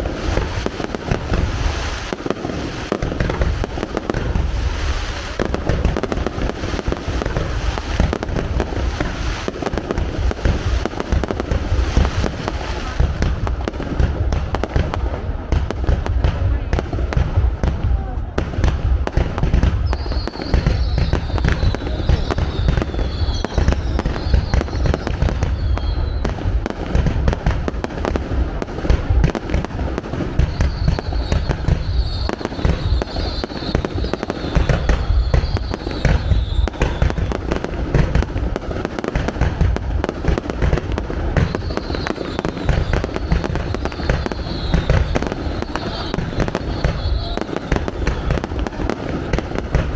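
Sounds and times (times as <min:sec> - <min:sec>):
fireworks booms and crackling bangs: 0:00.0 - 0:49.9
fireworks whistling: 0:00.0 - 0:49.9.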